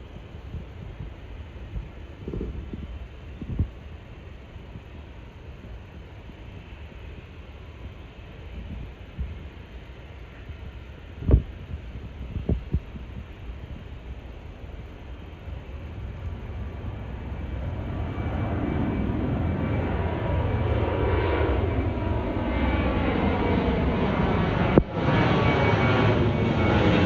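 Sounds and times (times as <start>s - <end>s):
airplane engine roaring: 0.0s - 27.0s.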